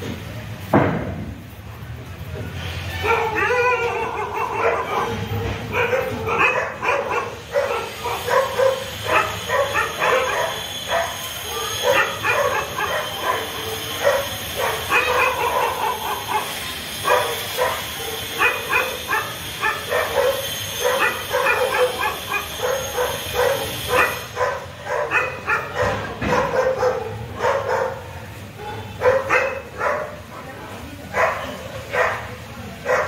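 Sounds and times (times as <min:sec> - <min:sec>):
dog barking: 0:03.0 - 0:30.4, 0:31.1 - 0:33.0.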